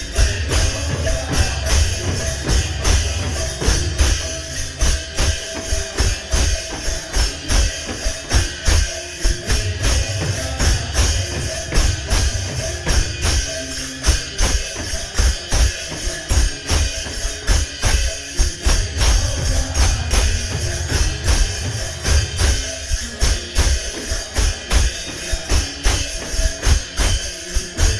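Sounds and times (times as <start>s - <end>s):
drum beat: 0.0s - 27.9s
jingling hand cymbals: 0.0s - 27.9s.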